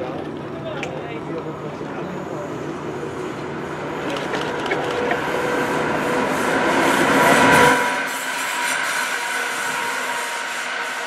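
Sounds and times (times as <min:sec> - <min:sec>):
diesel locomotive engine rumble: 0:00.0 - 0:11.0
high ringing from train wheels: 0:01.5 - 0:11.0.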